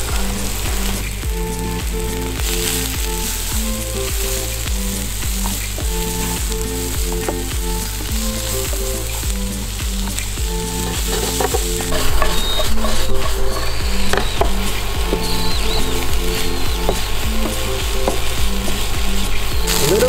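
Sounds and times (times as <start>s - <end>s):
onions sizzling in a pan: 0.0s - 18.3s, 19.6s - 20.0s.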